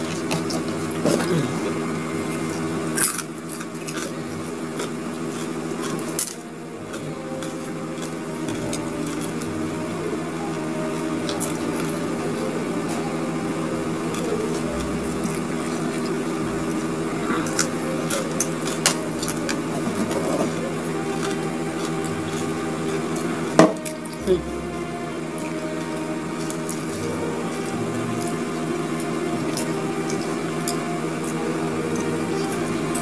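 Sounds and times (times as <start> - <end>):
chewing crunchy food: 0.0 - 10.3, 10.9 - 24.2, 25.3 - 33.0
low hum: 0.0 - 33.0.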